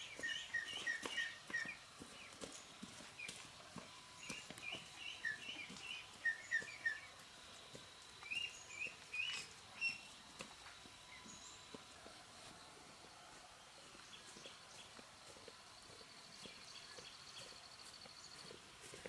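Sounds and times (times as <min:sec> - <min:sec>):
small birds chirping: 0:00.0 - 0:12.0, 0:13.8 - 0:19.0.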